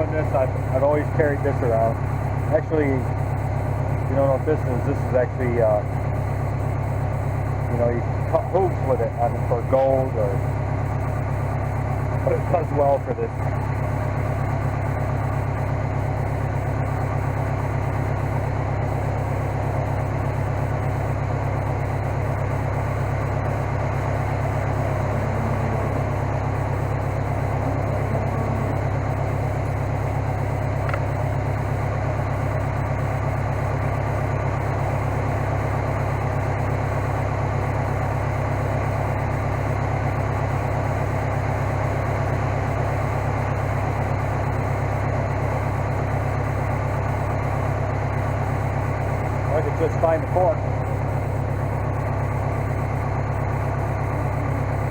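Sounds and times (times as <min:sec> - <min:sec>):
engine idling: 0:00.0 - 0:54.9.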